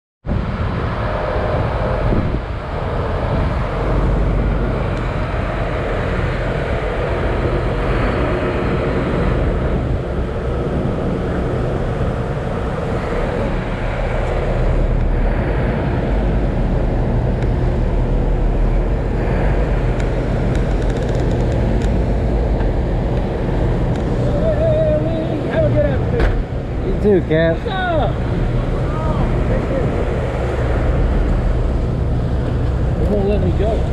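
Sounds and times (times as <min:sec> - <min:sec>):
churning wake water: 0:00.2 - 0:33.9
boat diesel engines humming: 0:00.3 - 0:33.9.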